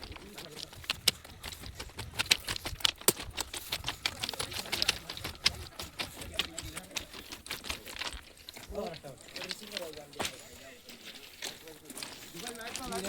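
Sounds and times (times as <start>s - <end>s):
clatter of sharp clicks: 0.0s - 13.0s.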